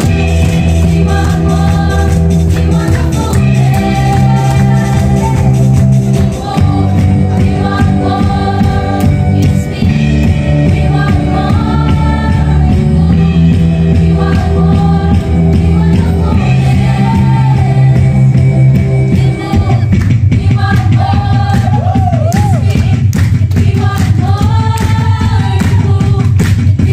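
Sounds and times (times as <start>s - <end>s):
live gospel band: 0.0s - 26.2s.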